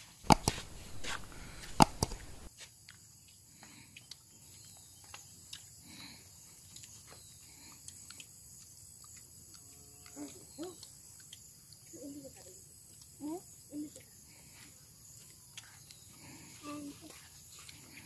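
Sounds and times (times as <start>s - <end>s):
insect chirring: 0.2s - 3.4s, 4.1s - 18.0s
crunchy food being eaten: 0.3s - 12.0s, 12.7s - 18.0s.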